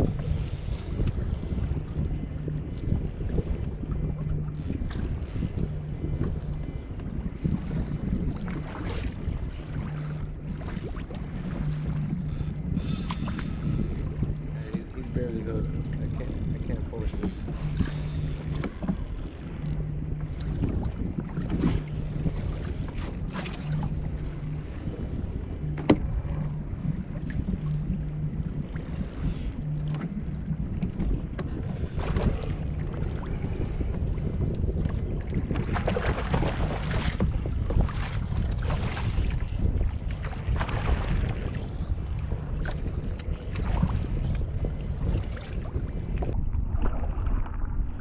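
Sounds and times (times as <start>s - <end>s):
low hum: 0.0s - 48.0s
water slapping a kayak: 0.0s - 48.0s
wind buffeting microphone: 0.0s - 48.0s.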